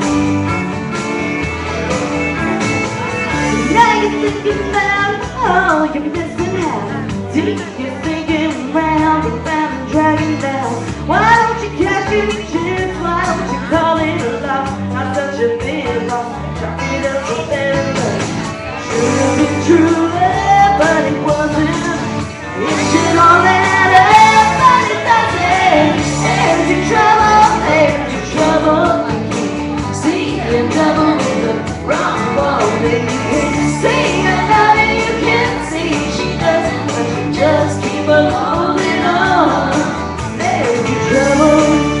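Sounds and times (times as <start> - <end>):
loud live music: 0.0 - 42.0
person singing: 3.4 - 42.0.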